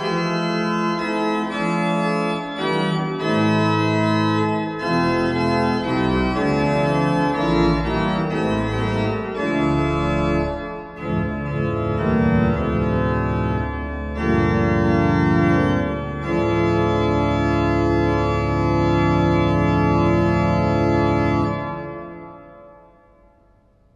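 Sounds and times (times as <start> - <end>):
pipe organ chords: 0.0 - 23.5.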